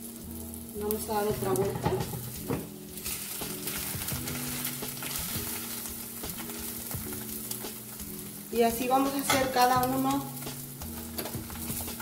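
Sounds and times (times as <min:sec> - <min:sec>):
omelet sizzling in a frying pan: 0:00.0 - 0:12.0.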